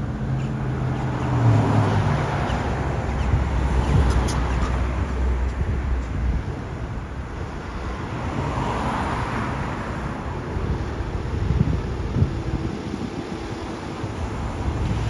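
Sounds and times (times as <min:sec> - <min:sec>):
large vehicle engine rumble: 0:00.0 - 0:15.0
road traffic noise: 0:00.0 - 0:15.0.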